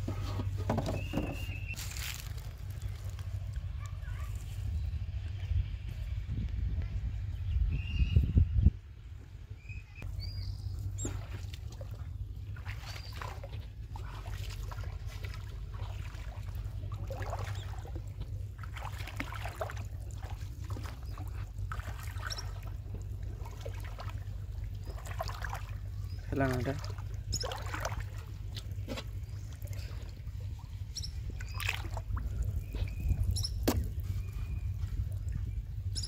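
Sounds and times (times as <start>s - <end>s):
water splashing and sloshing: 0.0s - 5.3s, 10.0s - 36.0s.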